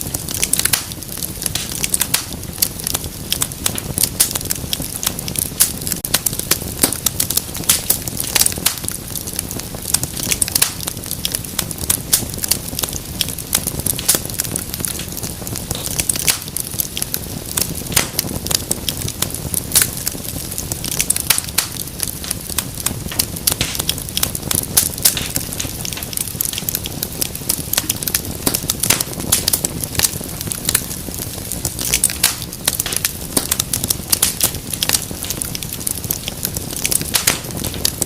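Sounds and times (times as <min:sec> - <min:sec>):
low rumble of flames: 0:00.0 - 0:38.0
wood fire crackling and popping: 0:00.0 - 0:38.0.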